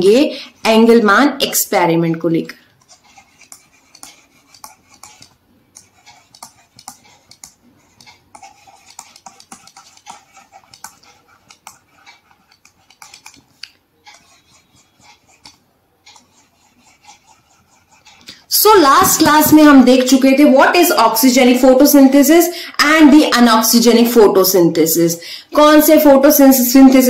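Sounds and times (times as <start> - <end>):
stylus tapping and scratching on screen: 0.0 - 24.4, 25.6 - 27.0.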